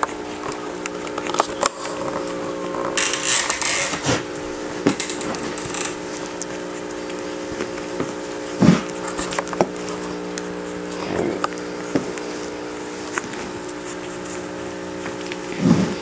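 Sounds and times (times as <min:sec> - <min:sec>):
puppies grunting: 0:00.0 - 0:16.0
steady low hum: 0:00.0 - 0:16.0.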